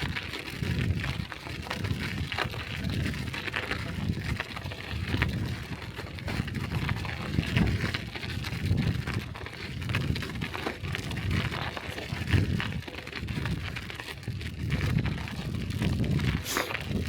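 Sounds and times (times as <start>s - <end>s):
bicycle tyres rumbling on snow: 0.0s - 17.0s
wind on microphone: 0.0s - 17.0s.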